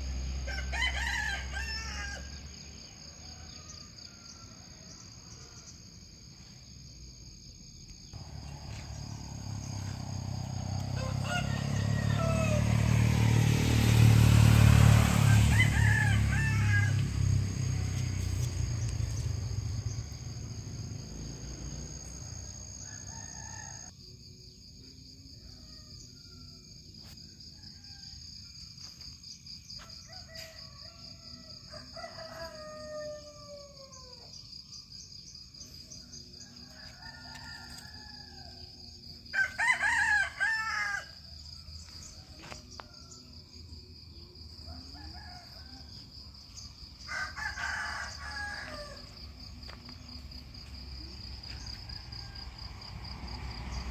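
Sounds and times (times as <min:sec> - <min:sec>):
roosters crowing: 0:00.0 - 0:05.8, 0:08.2 - 0:23.9, 0:29.8 - 0:34.4, 0:35.9 - 0:43.6, 0:44.6 - 0:53.9.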